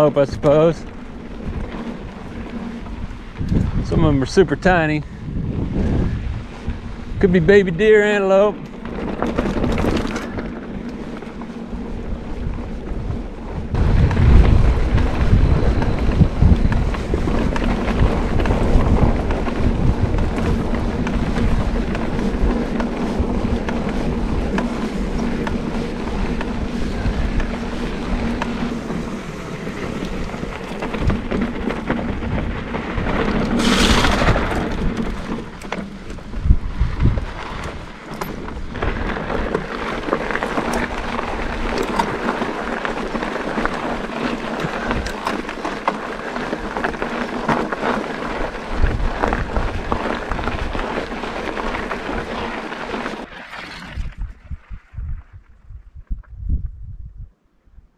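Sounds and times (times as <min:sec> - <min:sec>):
bike tyres rolling on dirt: 0:00.0 - 0:57.2
wind buffeting microphone: 0:00.0 - 0:57.9.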